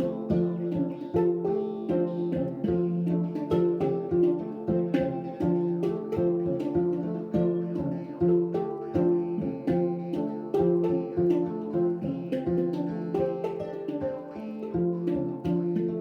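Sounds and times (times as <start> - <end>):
plucked string instrument: 0.0 - 16.0.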